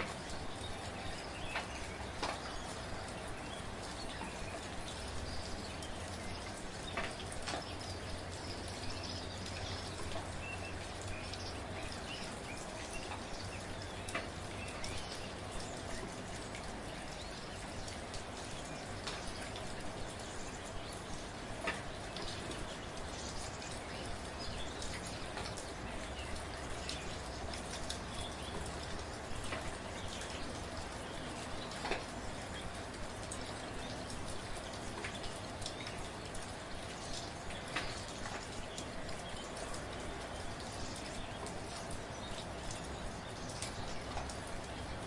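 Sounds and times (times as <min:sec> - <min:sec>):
gentle rain: 0:00.0 - 0:45.0
raindrops tapping close by: 0:00.0 - 0:45.0.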